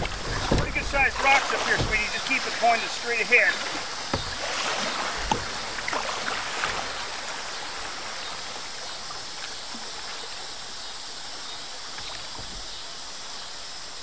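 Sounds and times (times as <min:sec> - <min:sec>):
river water running over rocks: 0:00.0 - 0:14.0.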